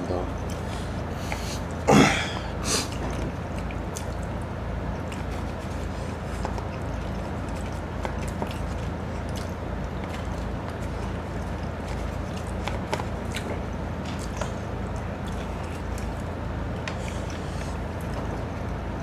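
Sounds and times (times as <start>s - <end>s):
faint chewing: 0.0s - 19.0s
steady low hum: 0.0s - 19.0s.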